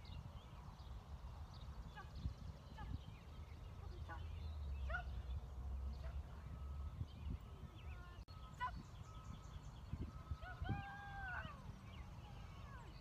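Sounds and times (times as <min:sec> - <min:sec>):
birds chirping: 0:00.0 - 0:13.0
wind rumble on microphone: 0:00.0 - 0:13.0.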